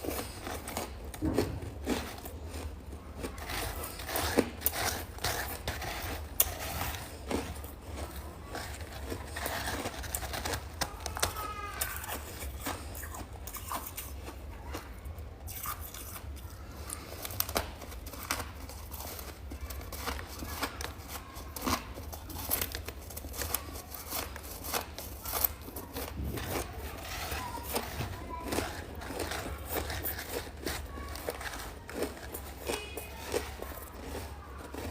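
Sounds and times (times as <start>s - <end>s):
crunching frost being chewed: 0.0s - 34.9s.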